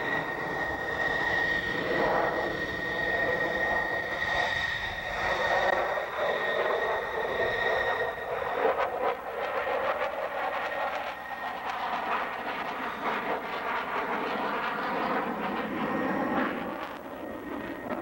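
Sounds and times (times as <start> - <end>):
fighter jet roar: 0.0 - 18.0
jet engine high whine: 0.0 - 18.0.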